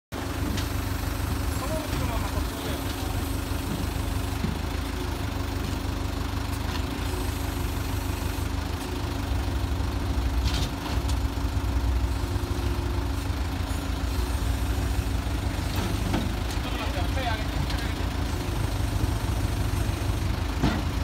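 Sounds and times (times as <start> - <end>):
truck engine idling: 0.1 - 21.0.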